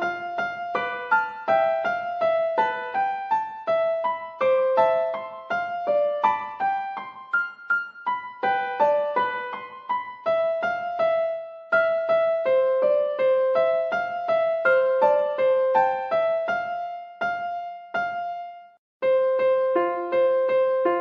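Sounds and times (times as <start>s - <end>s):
keyboard melody of single notes: 0.0s - 21.0s.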